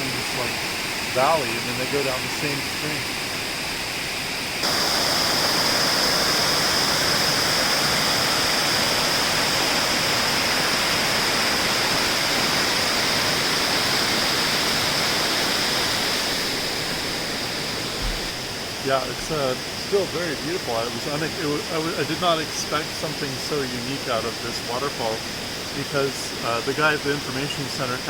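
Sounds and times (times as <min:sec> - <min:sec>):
waterfalls rushing: 0:00.0 - 0:28.0.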